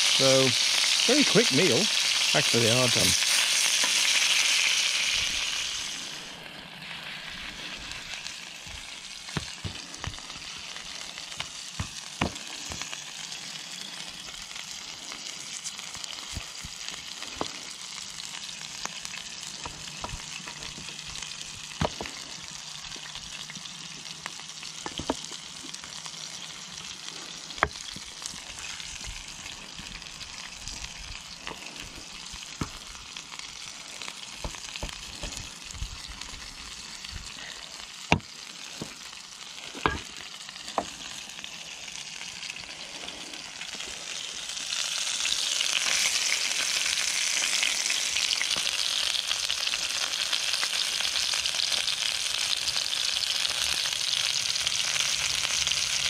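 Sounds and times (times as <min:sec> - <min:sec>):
meat sizzling in a pan: 0:00.0 - 0:56.0.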